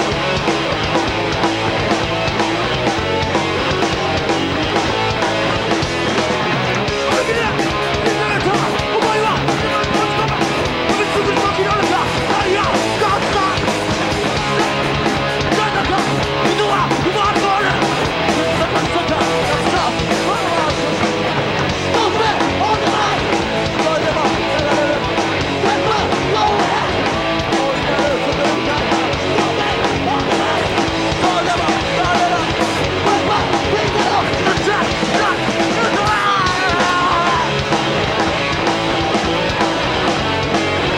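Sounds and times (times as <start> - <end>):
loud punk band playing: 0.0 - 40.9.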